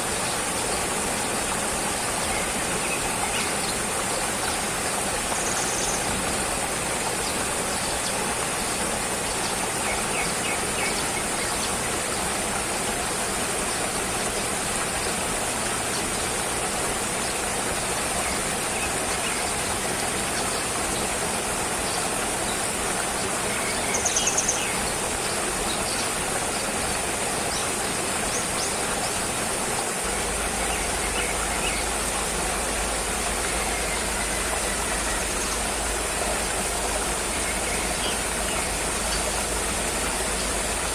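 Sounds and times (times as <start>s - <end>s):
rushing ambient hiss: 0.0s - 40.9s.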